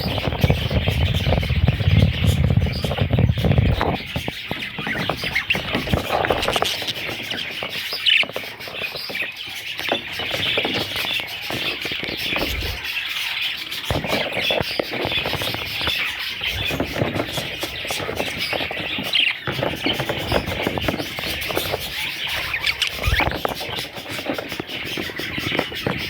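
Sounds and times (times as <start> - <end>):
budgerigar chicks chirping: 0.0 - 26.0.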